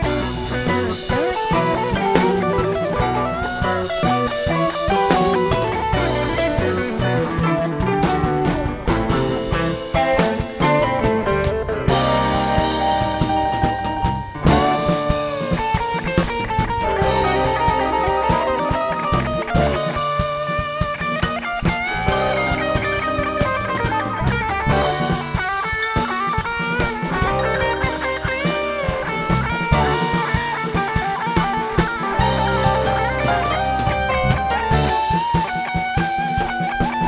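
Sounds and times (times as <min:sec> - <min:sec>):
drum kit: 0:00.0 - 0:37.0
electric bass: 0:00.0 - 0:37.0
electric guitar lead with bent notes: 0:00.0 - 0:37.0.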